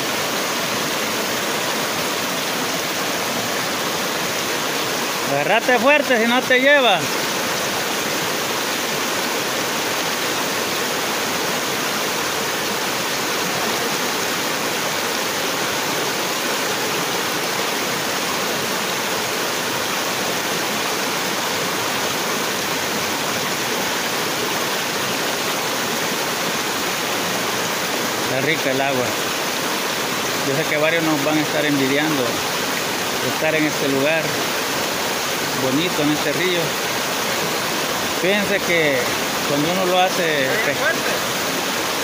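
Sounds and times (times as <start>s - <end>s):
water rushing over rocks: 0.0s - 42.0s.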